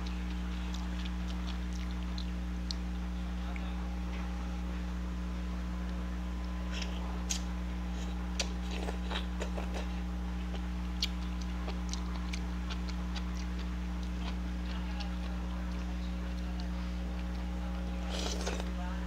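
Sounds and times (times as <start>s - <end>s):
person chewing noodles: 0.0s - 3.2s, 6.3s - 18.8s
steady low hum: 0.0s - 19.0s.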